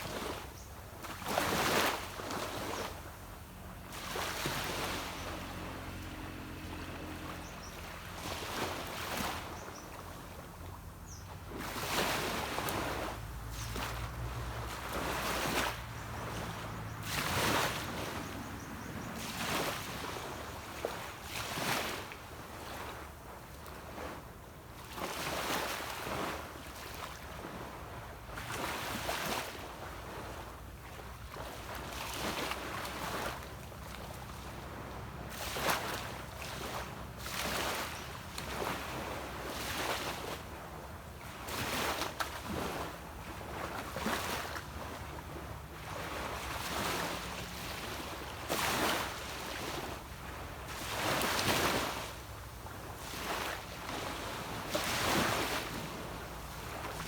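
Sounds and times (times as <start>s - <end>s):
distant boat engine hum: 0.0s - 57.0s
waves washing up a beach: 0.0s - 57.0s.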